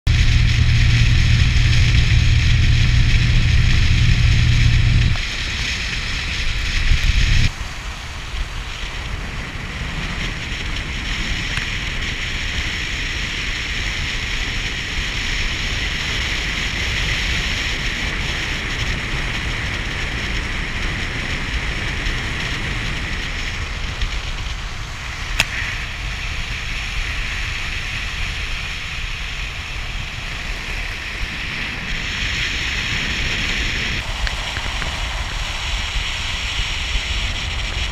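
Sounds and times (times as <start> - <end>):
low rumble: 0.0 - 37.9
wind on microphone: 0.0 - 37.9
water along boat hull: 0.1 - 37.9.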